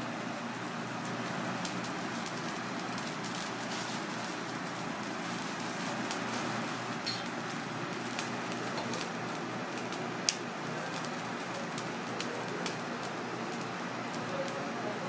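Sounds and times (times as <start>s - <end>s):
broth boiling hard: 0.0s - 15.0s.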